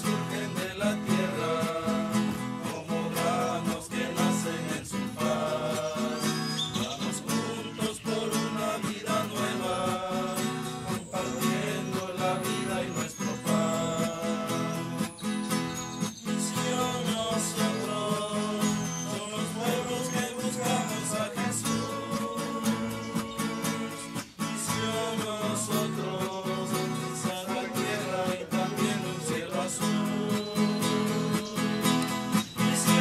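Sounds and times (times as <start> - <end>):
group singing: 0.0 - 33.0
strummed acoustic guitar: 0.0 - 33.0.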